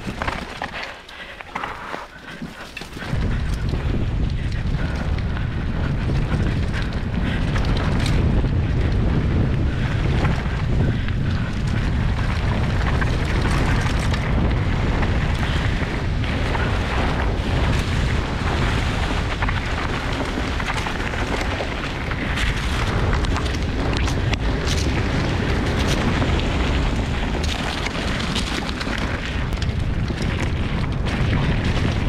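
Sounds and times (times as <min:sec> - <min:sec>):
bike rattling: 0:00.0 - 0:32.0
tyres rolling on dirt: 0:00.0 - 0:32.0
wind rumbling on microphone: 0:00.0 - 0:32.0.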